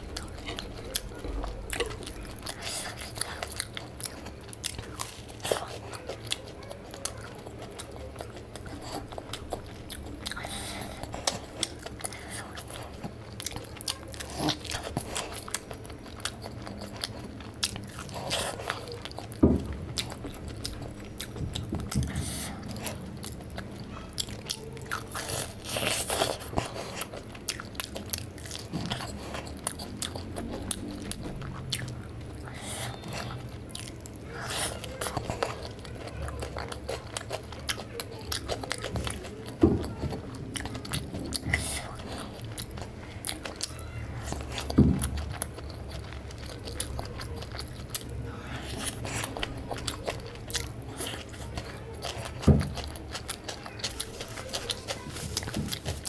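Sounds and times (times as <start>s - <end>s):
crunchy snack chewing: 0.0s - 56.0s.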